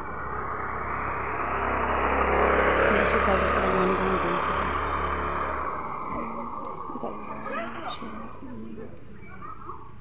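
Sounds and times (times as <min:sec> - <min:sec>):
vehicle driving past: 0:00.0 - 0:08.8.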